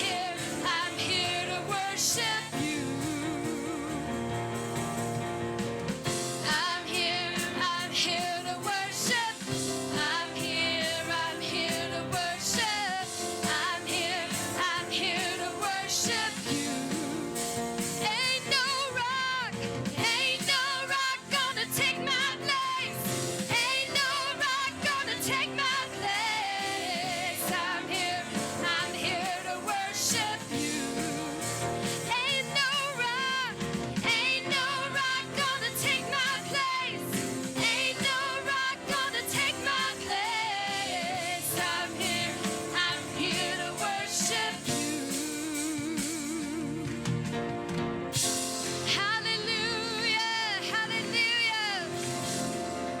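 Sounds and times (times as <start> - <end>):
person singing with vibrato: 0.0 - 4.5, 6.4 - 47.0
band with drums: 0.0 - 53.0.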